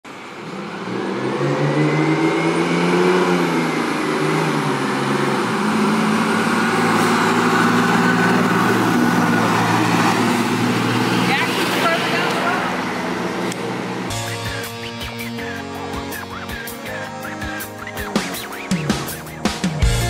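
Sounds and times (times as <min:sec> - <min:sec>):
diesel engine accelerating past: 0:00.1 - 0:20.0.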